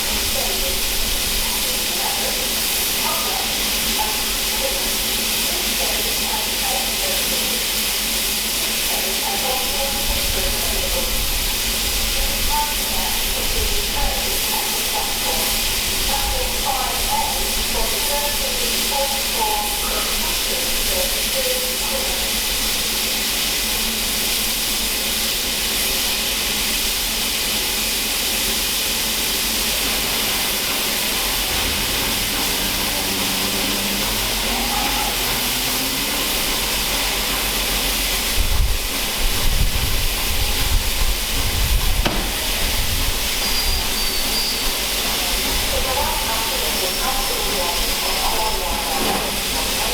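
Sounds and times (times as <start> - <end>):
steam hissing from locomotive: 0.0 - 49.9.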